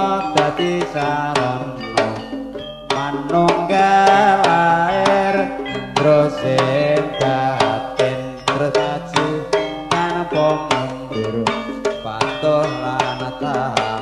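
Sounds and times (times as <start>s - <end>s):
hand drum strokes: 0.0s - 14.0s
metallophones and gongs ringing: 0.0s - 14.0s.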